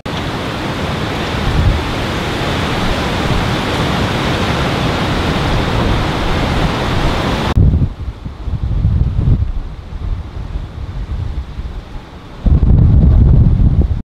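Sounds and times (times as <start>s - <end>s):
strong wind rushing: 0.1s - 14.0s
wind buffeting microphone: 0.3s - 14.0s.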